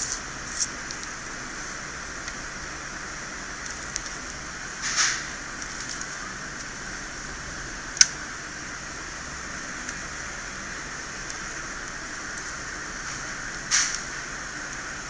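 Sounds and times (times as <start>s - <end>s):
fan hissing: 0.0s - 15.0s.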